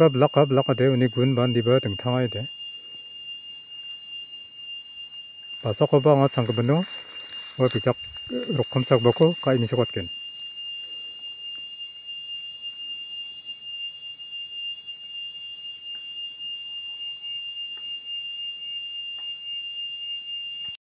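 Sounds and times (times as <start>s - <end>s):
high-pitched insect drone: 0.0s - 20.8s.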